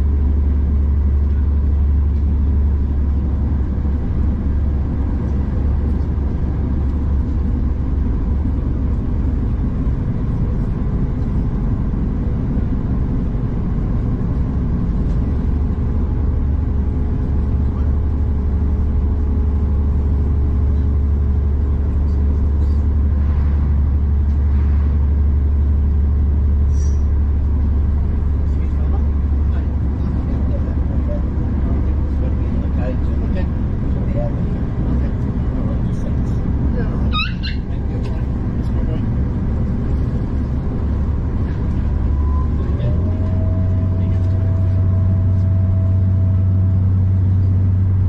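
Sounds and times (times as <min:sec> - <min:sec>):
train interior drone: 0:00.0 - 0:48.0.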